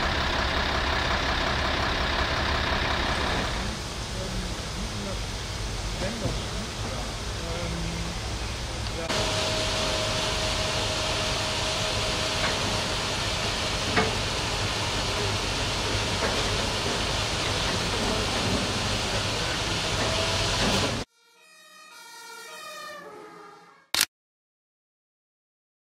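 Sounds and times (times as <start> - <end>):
fire roaring: 0.0 - 21.0.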